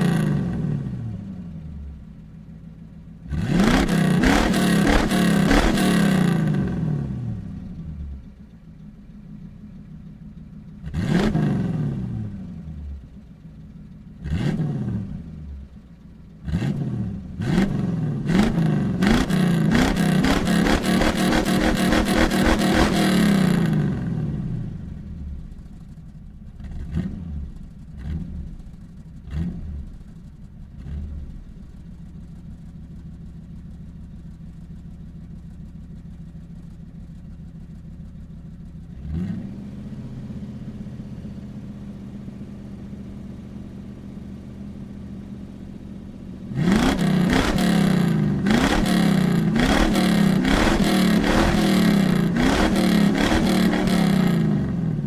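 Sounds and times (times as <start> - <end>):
car engine idling: 0.0 - 55.0
car engine revving: 0.0 - 55.0.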